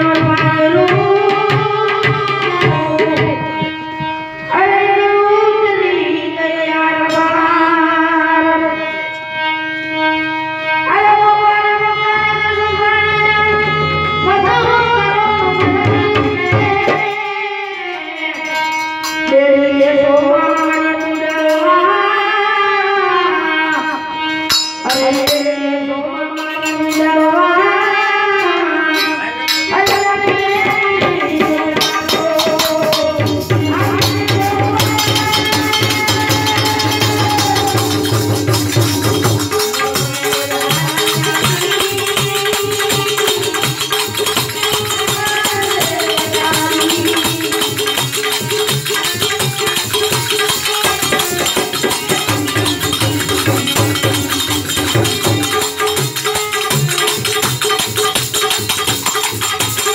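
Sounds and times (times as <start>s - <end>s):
jingling hand percussion: 0.0s - 4.8s, 12.2s - 22.8s, 23.6s - 59.9s
keyboard melody with sliding notes: 0.0s - 57.5s
tabla: 0.0s - 59.9s.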